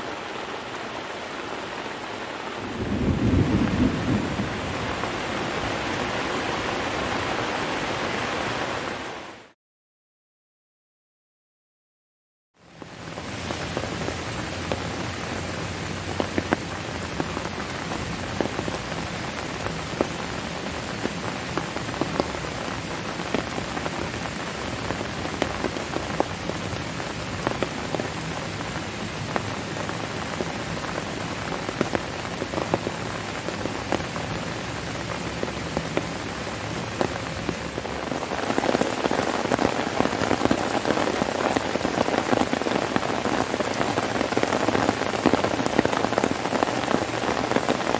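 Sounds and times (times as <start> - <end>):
heavy rain: 0.0 - 9.6, 12.6 - 47.9
raindrops striking sharply: 0.0 - 9.6, 12.8 - 47.9.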